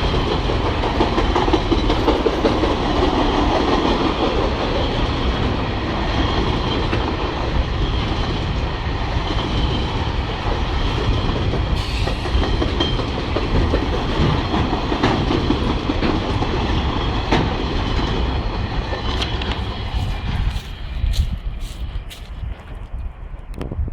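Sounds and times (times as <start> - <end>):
train wheels clacking on rail joints: 0.0 - 23.8
freight train rumbling past: 0.0 - 23.9.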